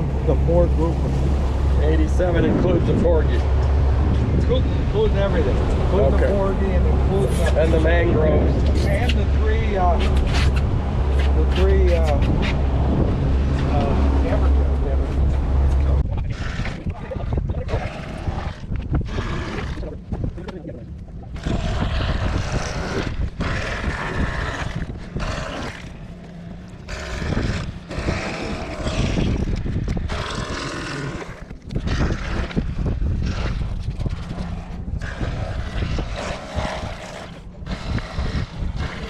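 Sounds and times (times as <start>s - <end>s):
boat motor rumbling: 0.0s - 39.0s
wind noise on microphone: 0.0s - 39.0s.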